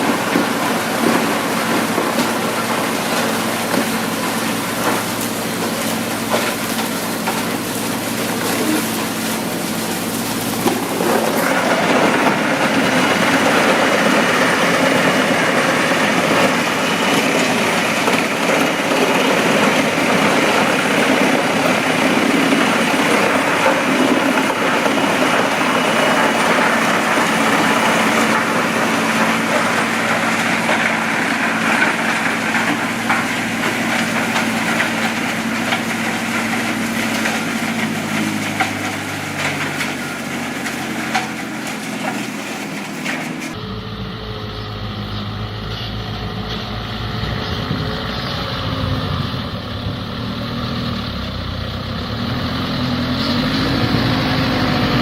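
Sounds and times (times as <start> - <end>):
wood chipper running: 0.0 - 55.0.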